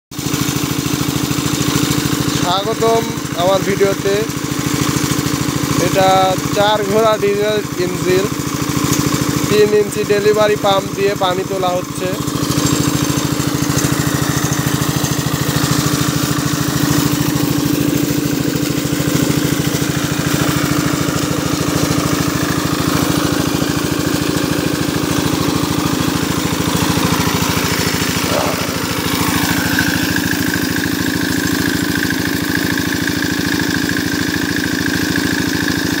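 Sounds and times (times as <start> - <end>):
diesel engine chugging: 0.2 - 36.0.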